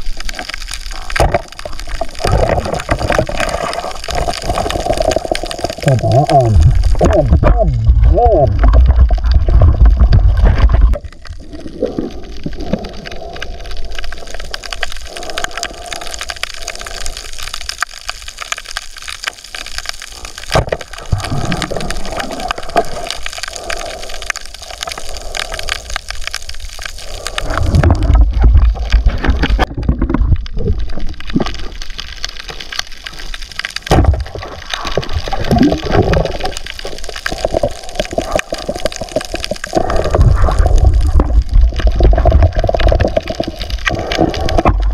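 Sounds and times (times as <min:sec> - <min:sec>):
dense underwater crackle of clicks: 0:00.0 - 0:44.9
gurgling surges of water: 0:00.0 - 0:44.9.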